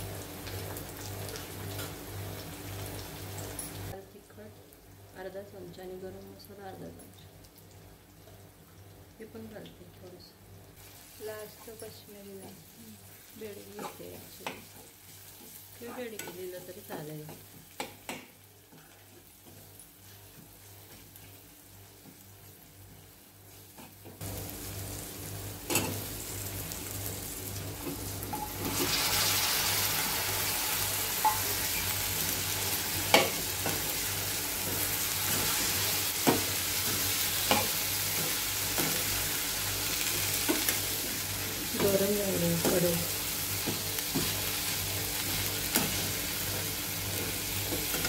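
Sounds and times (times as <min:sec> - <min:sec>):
vegetables sizzling in oil: 0:00.0 - 0:04.0, 0:04.6 - 0:48.0.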